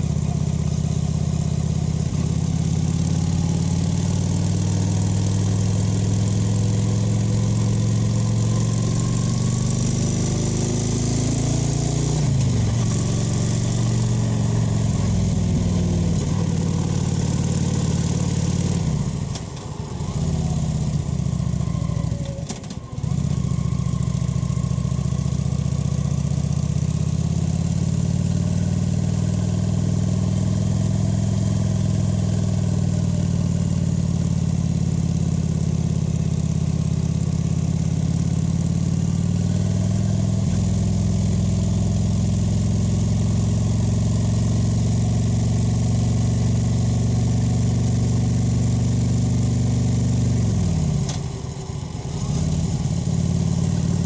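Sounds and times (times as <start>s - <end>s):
motorcycle engine revving: 0.0s - 36.1s, 37.0s - 54.0s.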